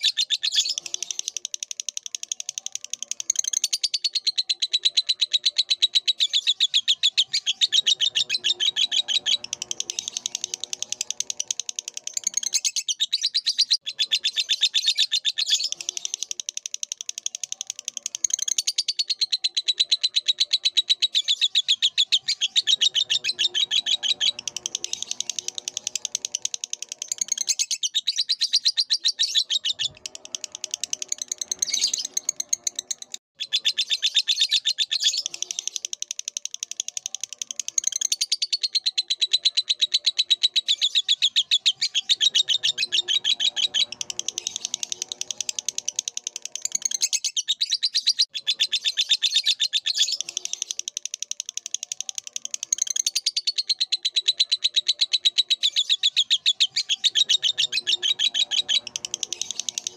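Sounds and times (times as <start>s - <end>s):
lovebird chattering trill: 0.0s - 59.9s.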